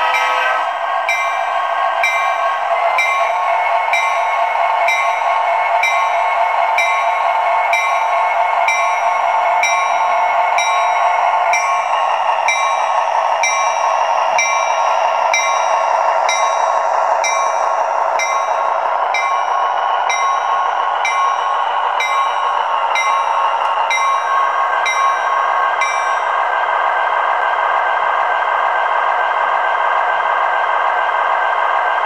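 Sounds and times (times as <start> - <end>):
locomotive bell ringing: 0.0 - 26.6.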